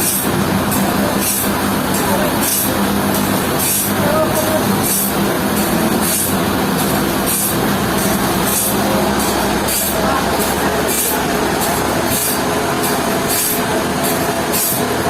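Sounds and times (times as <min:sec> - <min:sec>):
sawmill machinery hum: 0:00.0 - 0:15.0.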